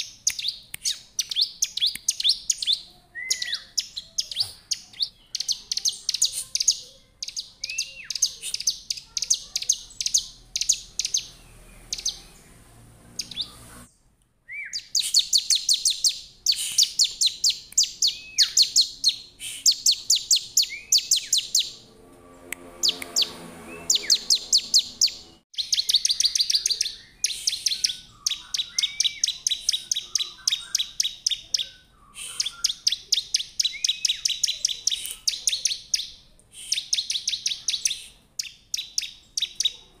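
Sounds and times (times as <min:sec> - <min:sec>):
bird singing high sharp chips: 0:00.0 - 0:13.9, 0:14.5 - 0:39.8.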